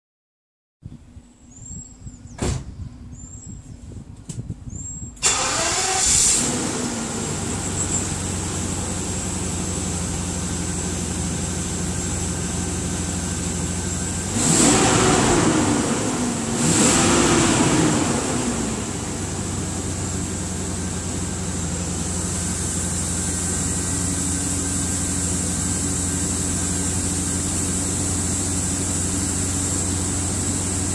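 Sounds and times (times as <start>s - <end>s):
car engine starting and idling: 5.2s - 30.9s.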